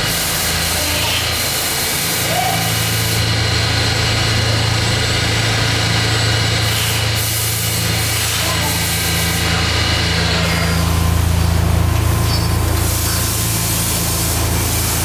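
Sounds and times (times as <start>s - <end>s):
factory machinery hum: 0.0s - 15.0s
noisy whir: 0.0s - 15.0s.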